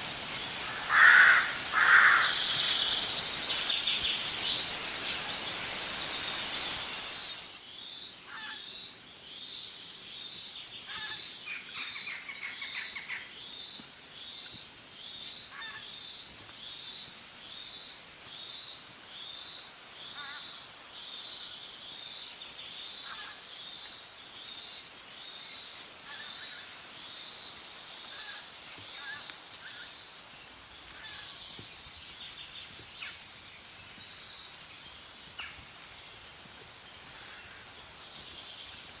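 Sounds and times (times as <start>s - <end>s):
birds calling: 0.1s - 34.7s.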